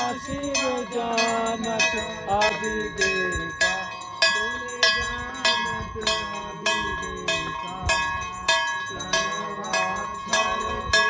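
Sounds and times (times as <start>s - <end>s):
metal bells ringing: 0.0s - 11.0s.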